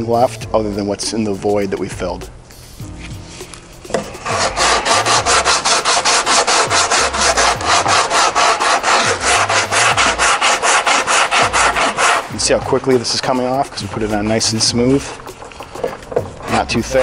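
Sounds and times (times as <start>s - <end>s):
sandpaper rubbing on body filler: 2.7s - 17.0s.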